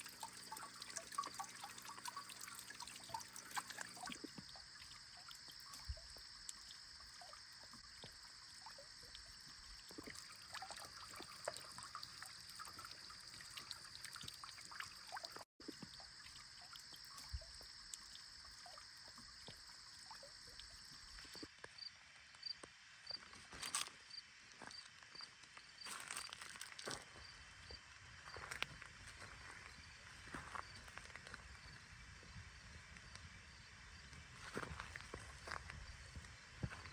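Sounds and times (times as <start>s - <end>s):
small ticks and rustles: 0.0s - 31.8s, 34.0s - 36.9s.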